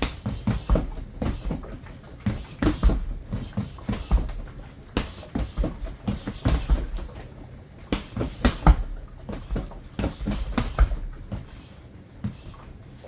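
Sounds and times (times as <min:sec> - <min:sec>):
punches thudding on mannequin: 0:00.0 - 0:07.1, 0:07.9 - 0:11.5.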